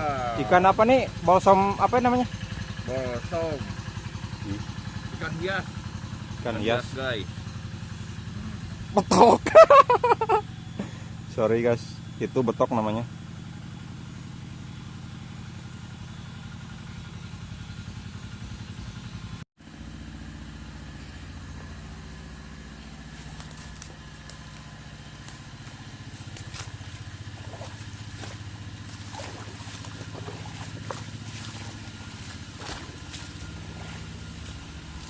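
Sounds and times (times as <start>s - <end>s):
small motorcycle engine running: 0.0s - 35.0s.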